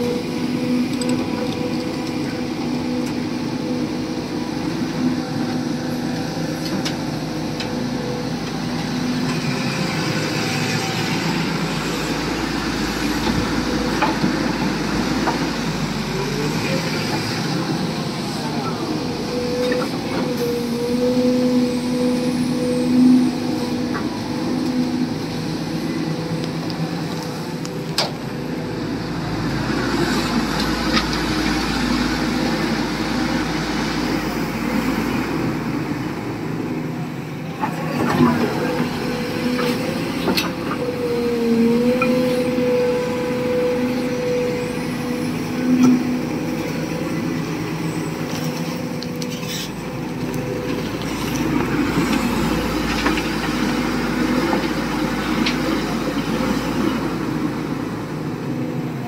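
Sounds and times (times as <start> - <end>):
excavator diesel engine running: 0.0 - 59.0
high hydraulic whine: 0.0 - 59.0.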